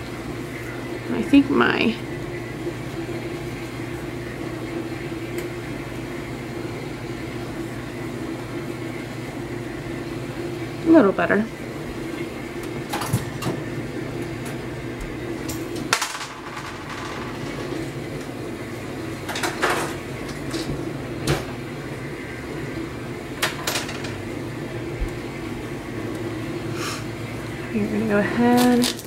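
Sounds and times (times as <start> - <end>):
dishwasher humming: 0.0 - 29.0.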